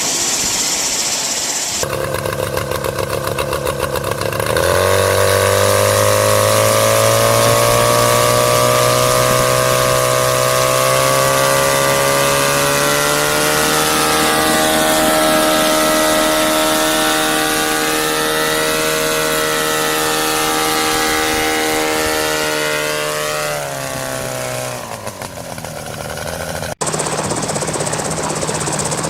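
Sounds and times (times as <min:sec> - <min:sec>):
small petrol engine running: 0:00.0 - 0:29.0.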